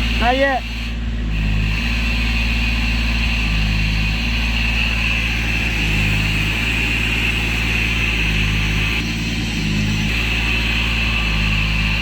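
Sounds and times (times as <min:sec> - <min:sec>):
compressed air hissing: 0:00.0 - 0:12.0
engine running steadily: 0:00.0 - 0:12.0.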